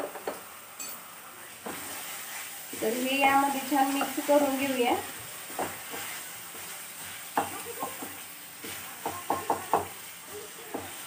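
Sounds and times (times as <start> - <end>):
faint sizzle of frying: 0.0 - 11.0
spatula scraping a pan: 1.6 - 11.0.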